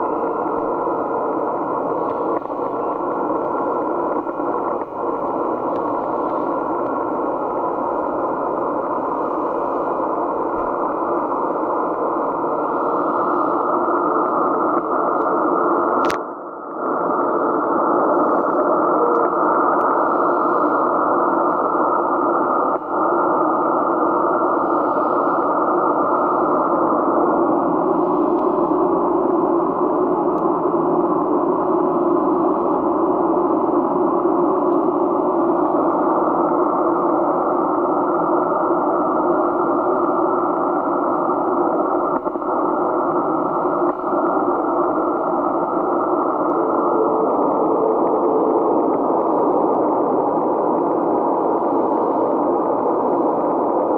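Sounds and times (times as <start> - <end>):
radio static hiss: 0.0 - 53.9.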